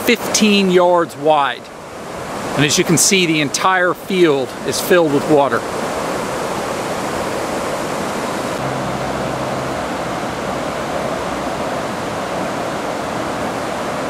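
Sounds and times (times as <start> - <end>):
fast water rushing: 0.0 - 14.0.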